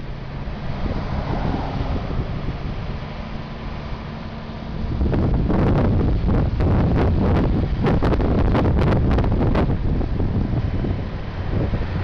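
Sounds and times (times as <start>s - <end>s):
diesel truck engine rumbling: 0.0s - 12.0s
wind buffeting microphone: 0.0s - 12.0s.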